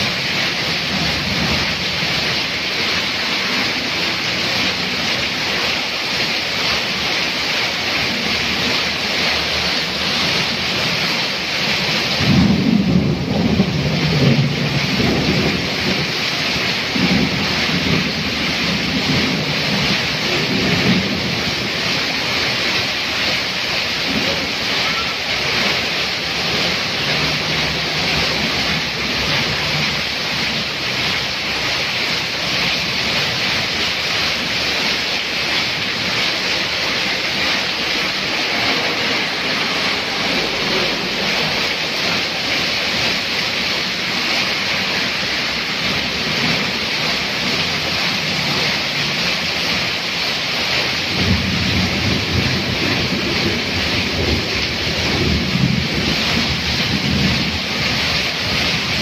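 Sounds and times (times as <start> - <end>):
heavy rain falling: 0.0 - 59.0
water pouring off roof: 0.0 - 59.0
water splashing on flooded road: 0.0 - 59.0.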